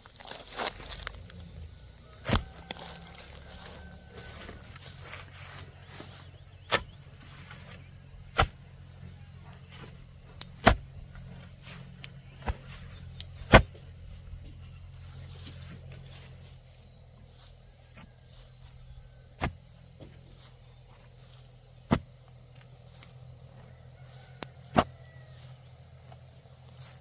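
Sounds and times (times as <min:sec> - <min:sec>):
high drone of insects: 0:00.0 - 0:27.0.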